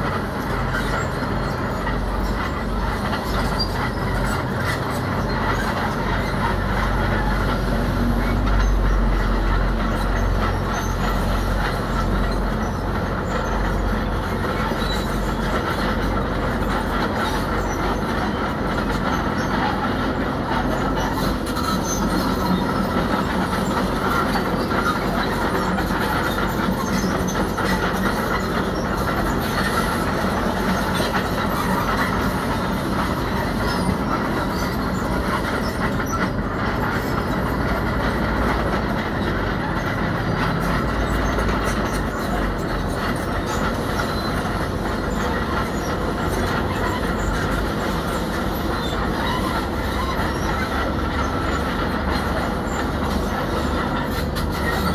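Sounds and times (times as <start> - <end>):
diesel engine running: 0.0 - 54.9
steel tracks clanking and squealing: 0.0 - 54.9.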